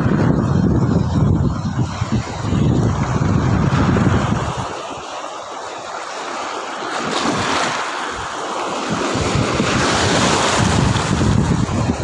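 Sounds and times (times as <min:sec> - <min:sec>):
wind buffeting microphone: 0:00.0 - 0:05.3, 0:07.0 - 0:12.0
small waves breaking on shore: 0:01.5 - 0:12.0.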